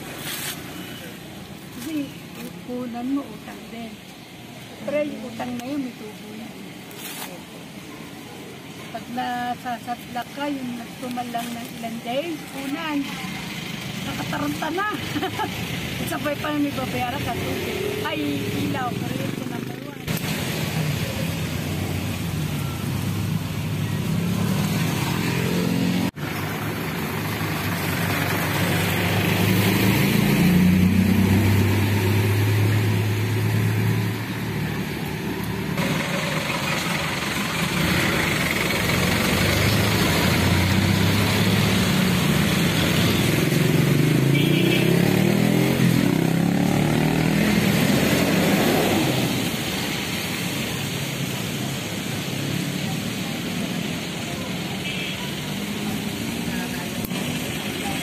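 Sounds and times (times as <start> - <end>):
vehicle engines revving past: 10.7 - 58.0.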